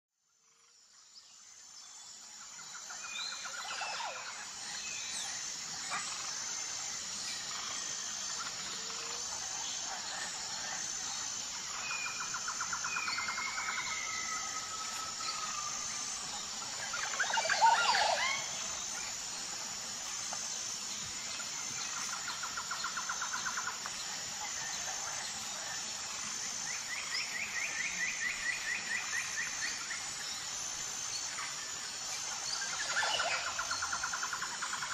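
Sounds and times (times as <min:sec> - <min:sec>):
insect chirring: 0:00.4 - 0:34.9.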